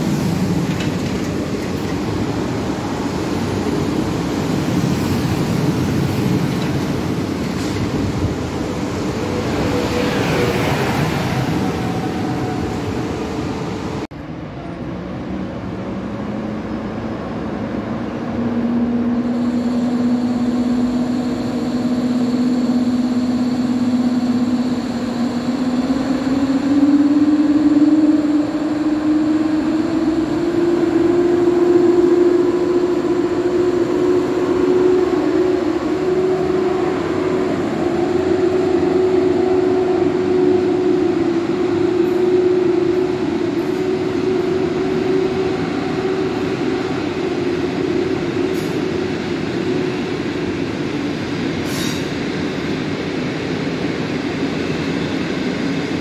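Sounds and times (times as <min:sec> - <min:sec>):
electric train whine: 0:00.0 - 0:56.0
train wheels rumbling on rails: 0:00.0 - 0:56.0.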